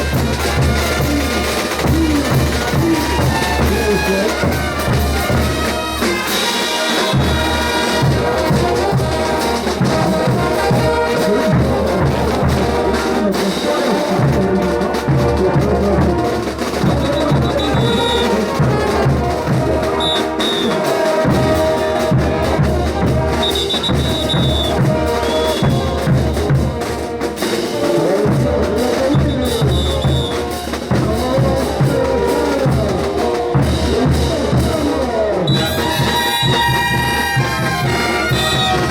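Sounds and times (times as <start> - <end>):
brass band playing: 0.0 - 38.9
steady drum beat: 0.0 - 38.9
trumpets and trombones: 0.0 - 38.9.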